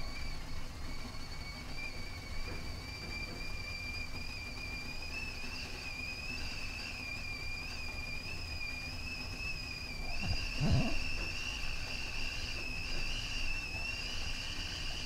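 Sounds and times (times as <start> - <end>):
kettle whistling: 0.0 - 15.0.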